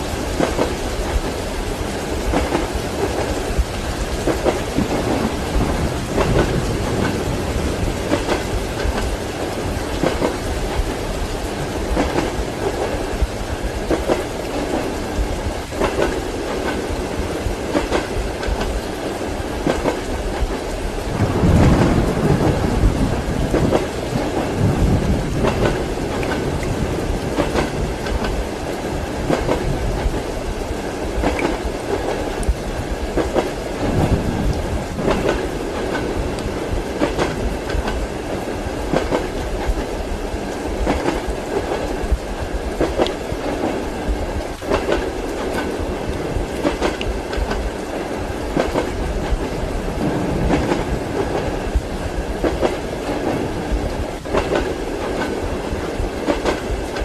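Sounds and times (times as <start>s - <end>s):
rumble of moving carriage: 0.0s - 57.0s
train wheels clacking over rail joints: 0.1s - 15.0s, 15.6s - 30.3s, 31.0s - 38.1s, 38.8s - 39.9s, 40.6s - 57.0s.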